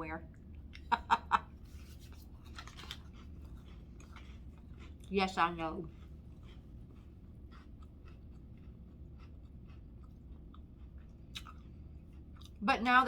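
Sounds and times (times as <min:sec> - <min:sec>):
chewing crackers: 0:01.6 - 0:13.0.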